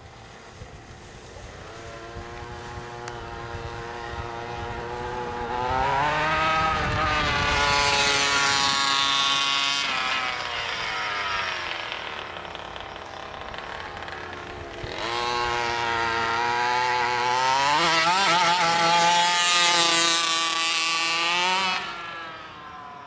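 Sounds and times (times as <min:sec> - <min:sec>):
two-stroke engine of rc truck: 0:00.0 - 0:23.0.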